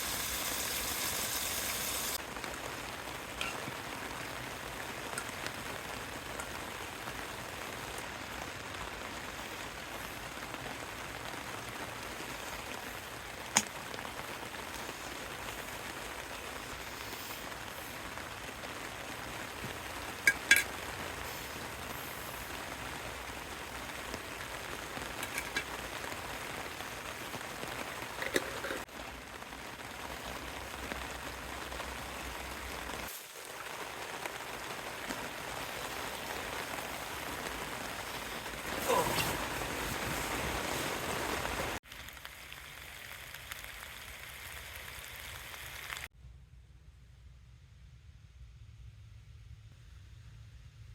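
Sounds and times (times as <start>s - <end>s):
steady rain falling: 0.0s - 46.2s.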